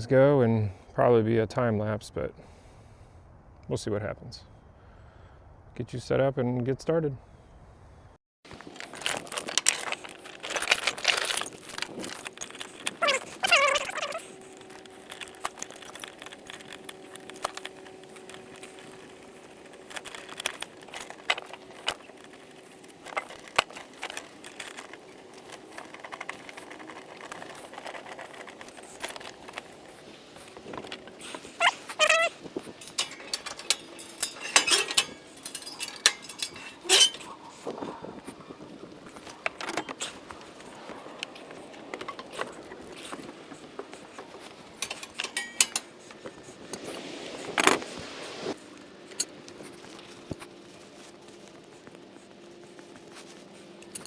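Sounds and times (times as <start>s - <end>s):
metallic clinks of rigging: 8.5s - 54.0s.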